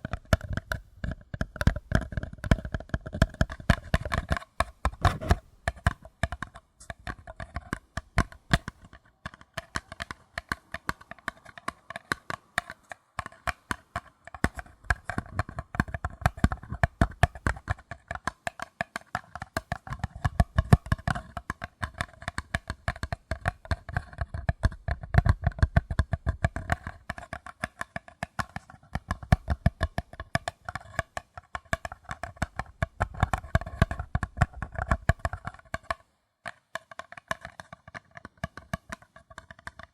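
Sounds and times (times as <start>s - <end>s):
fingers tapping paper cups: 0.0s - 39.9s.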